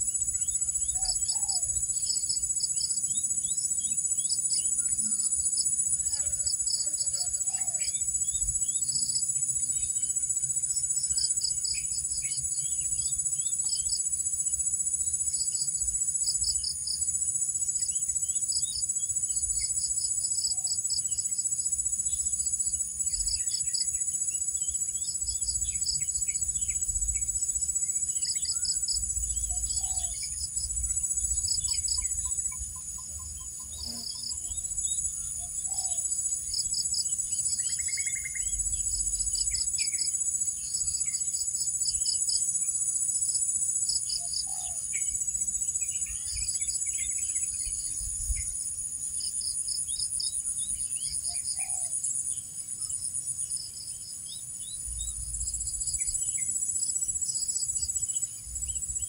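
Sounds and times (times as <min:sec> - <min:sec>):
pulsed cricket chirp: 0:00.0 - 0:59.0.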